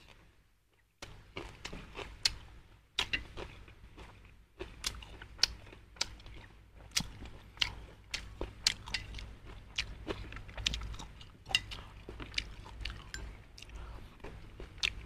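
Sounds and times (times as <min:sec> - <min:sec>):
person chewing: 0:01.4 - 0:15.0.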